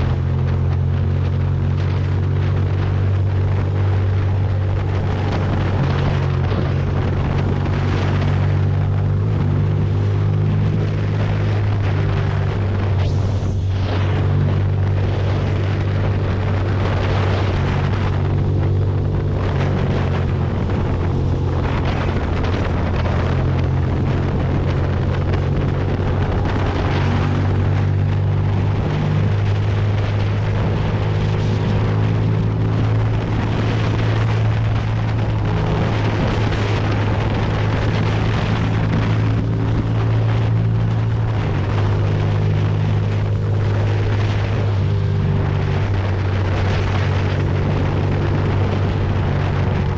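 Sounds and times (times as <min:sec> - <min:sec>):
motorcycle engine cruising: 0:00.0 - 0:49.9
wind rushing over microphone: 0:00.0 - 0:49.9.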